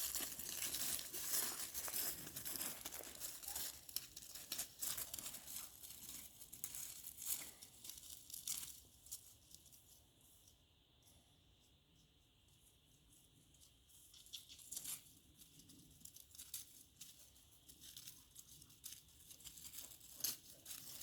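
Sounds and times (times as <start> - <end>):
rustling and crinkling: 0.0 - 11.2, 12.0 - 21.0.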